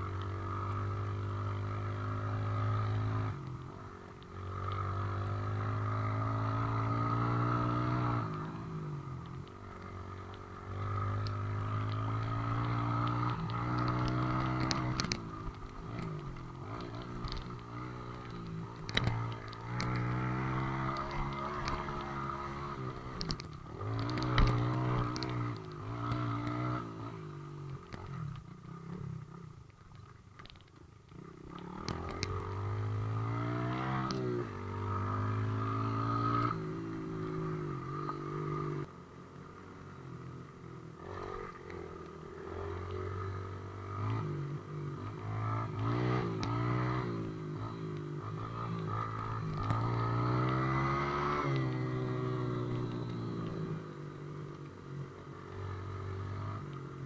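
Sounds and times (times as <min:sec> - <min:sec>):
off-road vehicle engines revving: 0:00.0 - 0:09.1, 0:09.7 - 0:29.0, 0:30.5 - 0:38.9, 0:40.9 - 0:57.0.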